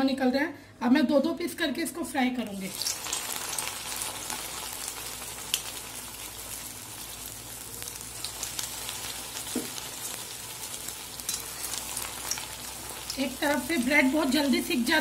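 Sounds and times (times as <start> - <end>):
deep-frying in hot oil: 2.0 - 15.0.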